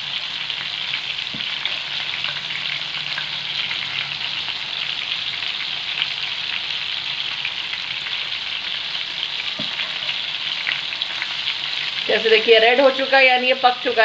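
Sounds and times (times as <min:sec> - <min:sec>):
deep-frying sizzle with crackling pops: 0:00.0 - 0:14.0.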